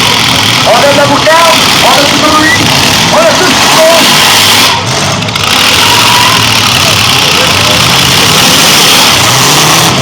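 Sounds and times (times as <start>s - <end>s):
car engines revving loudly: 0.0s - 10.0s.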